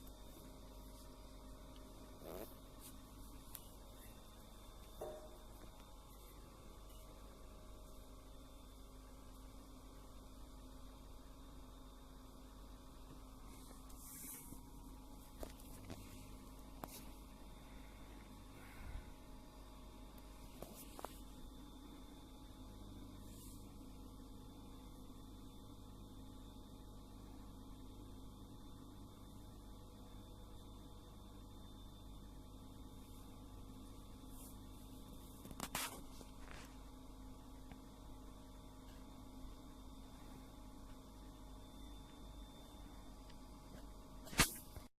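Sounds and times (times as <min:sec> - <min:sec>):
faint electrical hum: 0:00.0 - 0:44.9.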